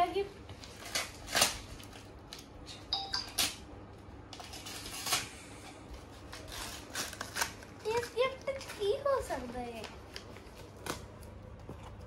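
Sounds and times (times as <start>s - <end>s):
wrapping paper rustling and tearing: 0.5s - 2.6s, 4.3s - 12.0s.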